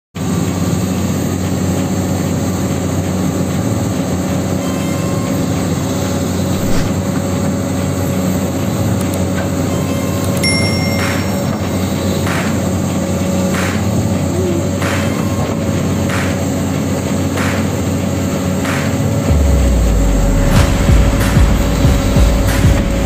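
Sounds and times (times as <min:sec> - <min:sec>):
toy excavator motor whirring: 0:00.4 - 0:19.2.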